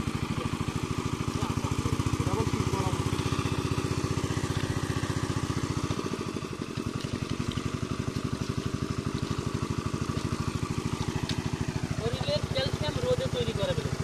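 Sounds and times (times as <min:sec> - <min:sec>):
water pump engine running: 0:00.0 - 0:14.0.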